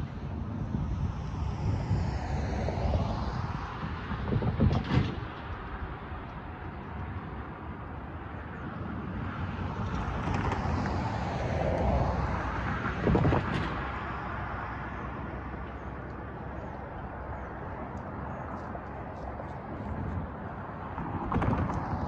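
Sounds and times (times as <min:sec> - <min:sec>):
steady traffic noise: 0:00.0 - 0:22.0.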